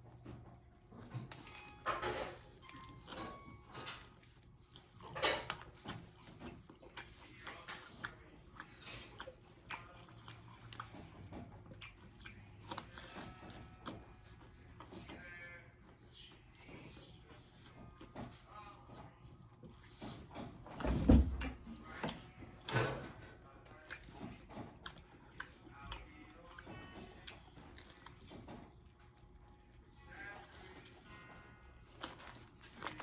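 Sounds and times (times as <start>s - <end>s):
person chewing sandwich: 0.0s - 33.0s.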